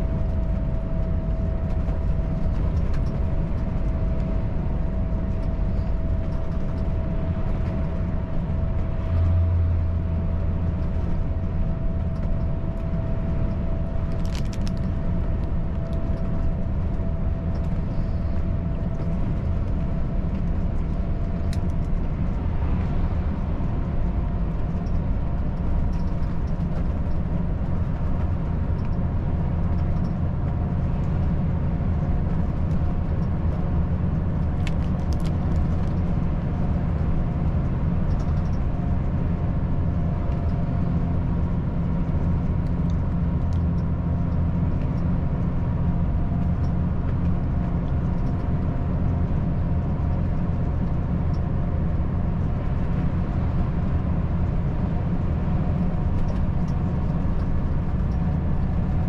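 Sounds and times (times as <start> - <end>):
road and tyre noise: 0.0 - 59.0
truck diesel engine cruising: 0.0 - 59.0.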